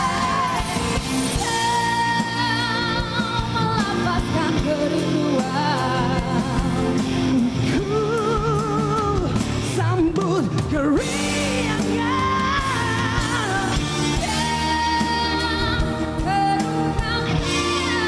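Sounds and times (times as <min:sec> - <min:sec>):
band accompaniment: 0:00.0 - 0:18.0
person singing with vibrato: 0:00.0 - 0:18.0.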